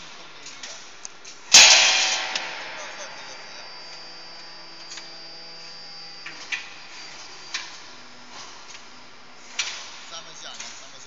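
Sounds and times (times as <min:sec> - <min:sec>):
hydraulic press hum: 0:00.0 - 0:11.0.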